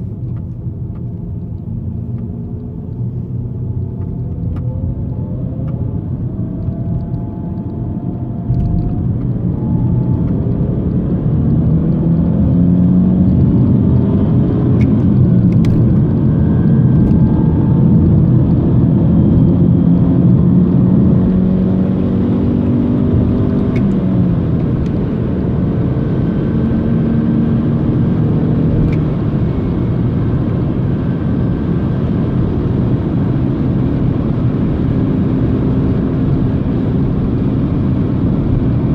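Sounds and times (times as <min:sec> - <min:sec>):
car whine rising and falling: 0:00.0 - 0:38.9
road and engine rumble: 0:00.0 - 0:38.9.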